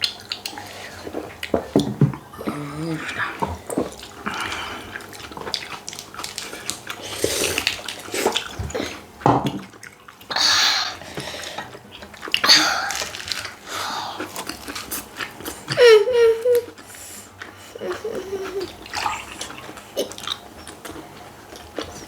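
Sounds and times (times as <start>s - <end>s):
wet chewing: 0.0s - 22.0s.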